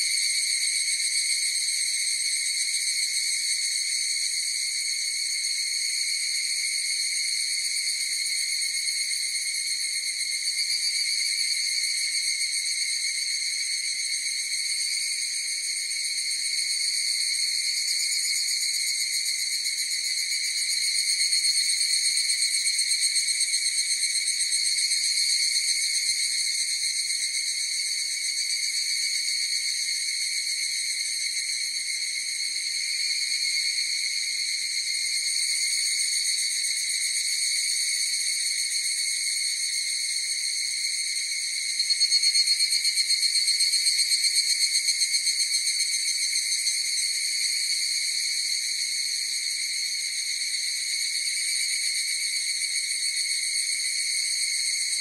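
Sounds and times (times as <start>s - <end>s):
cicadas shrill trilling: 0.0s - 55.0s.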